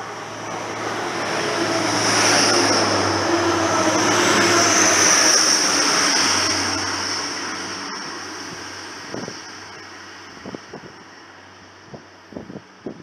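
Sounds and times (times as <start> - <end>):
train rushing past: 0.0 - 11.4.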